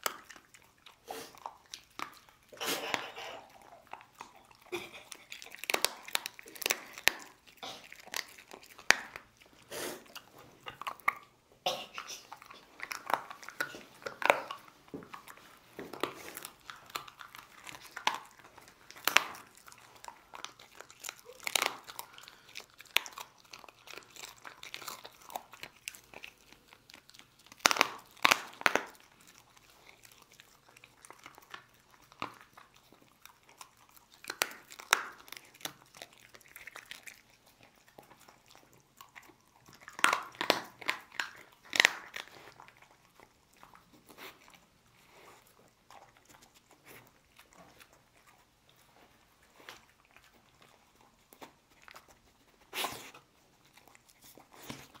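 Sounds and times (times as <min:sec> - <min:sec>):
dog crunching bones: 0:00.0 - 0:55.0.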